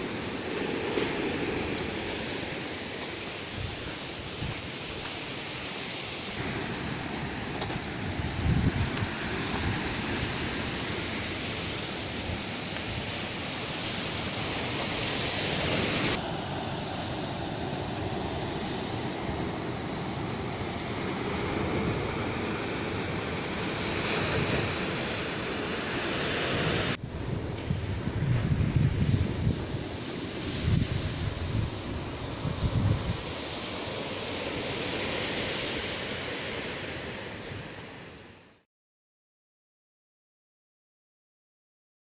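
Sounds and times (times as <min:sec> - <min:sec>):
wind on microphone: 0:00.0 - 0:05.7, 0:06.4 - 0:38.2
ocean surf breaking on rocks: 0:00.0 - 0:38.6.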